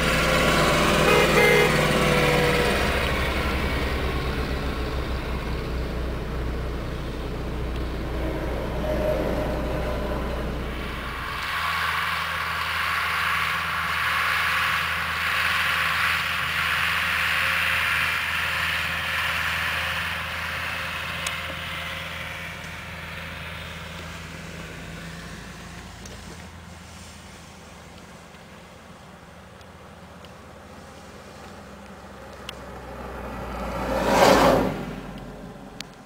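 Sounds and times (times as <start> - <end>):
rumble of trailers: 0.0 - 36.0
tractor engine under load: 0.0 - 36.0.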